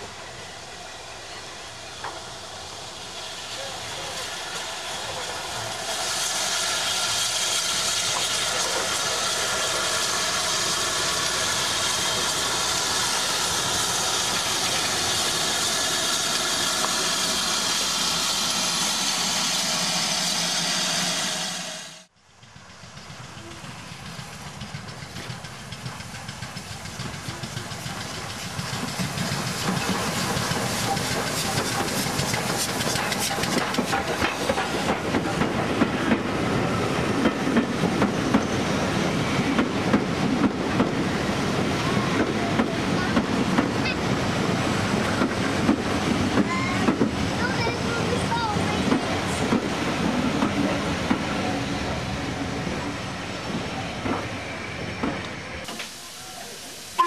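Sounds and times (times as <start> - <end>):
steam hissing: 0.0 - 57.0
steam train passing: 0.0 - 57.0.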